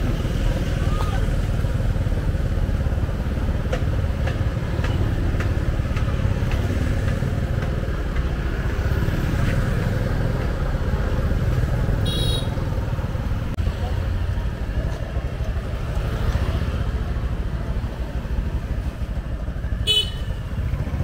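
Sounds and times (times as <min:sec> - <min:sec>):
motorbike engines rumbling: 0:00.0 - 0:21.0.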